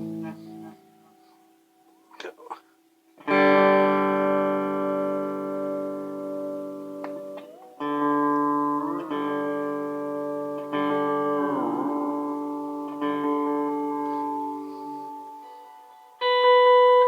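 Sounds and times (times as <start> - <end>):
electric guitar chords with delay: 0.0 - 1.0, 3.2 - 17.0.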